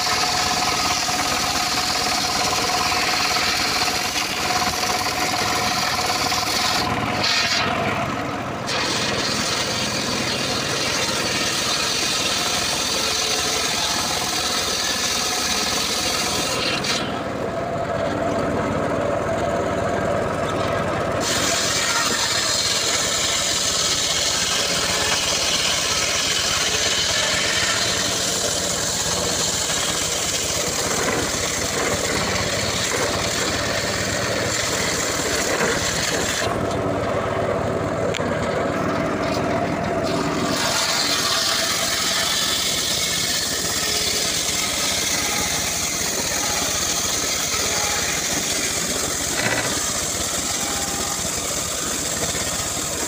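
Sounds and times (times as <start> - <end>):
circular saw cutting wood: 0.0 - 19.0, 20.0 - 53.0.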